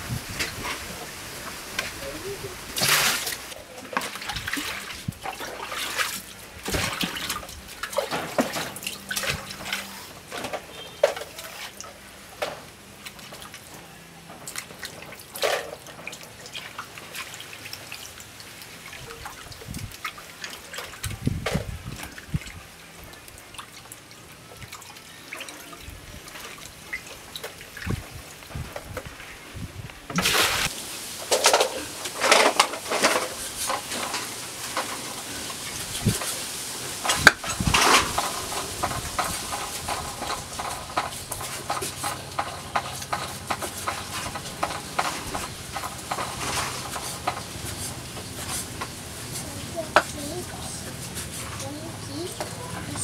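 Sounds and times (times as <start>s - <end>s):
water sloshing in basin: 1.7s - 29.4s, 30.0s - 53.0s.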